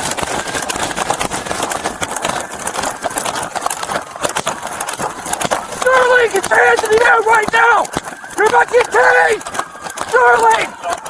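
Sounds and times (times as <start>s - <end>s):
running footsteps: 0.0s - 11.0s.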